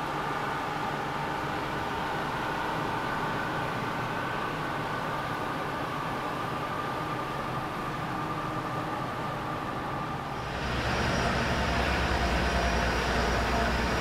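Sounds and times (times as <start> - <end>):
marine diesel engine drone: 0.0 - 14.0.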